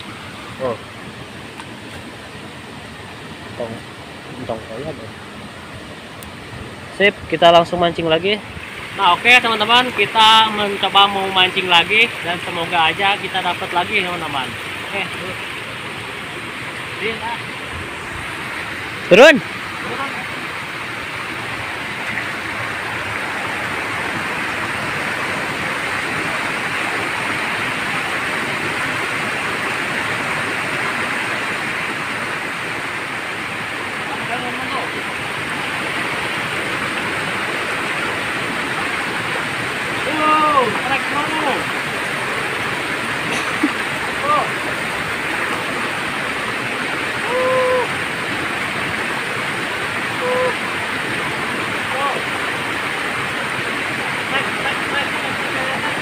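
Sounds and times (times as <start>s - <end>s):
rocky stream rushing: 0.0s - 56.0s.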